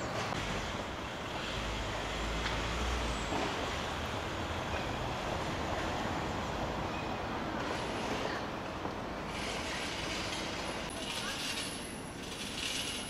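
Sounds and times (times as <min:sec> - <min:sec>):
distant traffic: 0:00.0 - 0:13.0.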